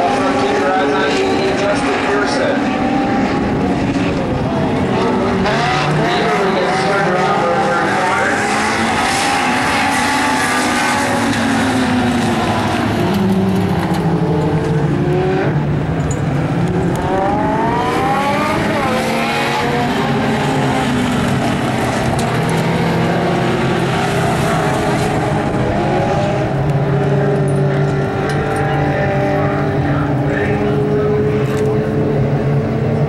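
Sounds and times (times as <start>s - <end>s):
race car engines revving high: 0.0s - 33.0s.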